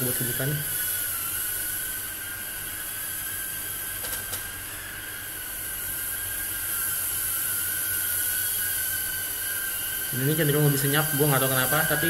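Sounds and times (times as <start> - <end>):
small drone motors whining: 0.0 - 12.0.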